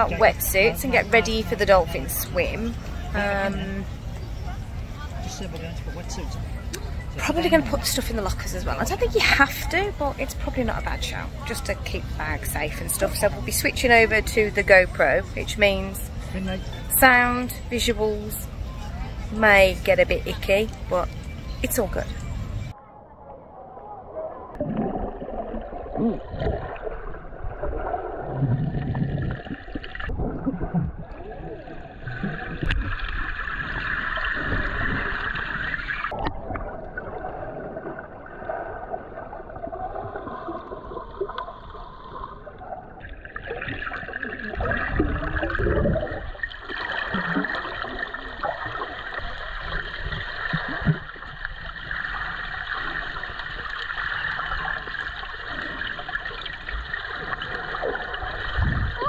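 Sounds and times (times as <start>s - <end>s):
muffled water gurgling and sloshing: 0.0s - 59.0s.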